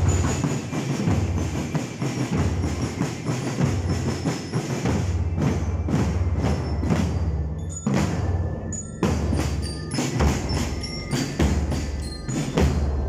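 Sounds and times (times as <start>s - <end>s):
bell lyre notes: 0.0s - 13.0s
marching band drums: 0.0s - 13.0s.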